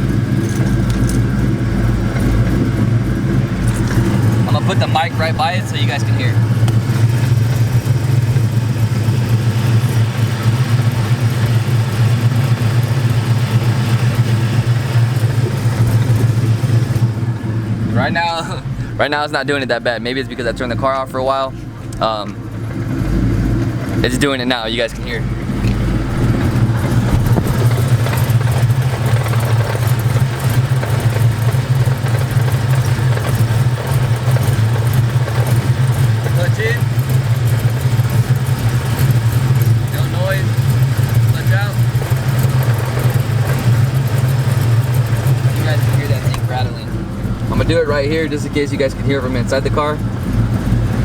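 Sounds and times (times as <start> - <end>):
car engine idling: 0.0 - 51.0
clutch rattling clatter: 0.0 - 51.0.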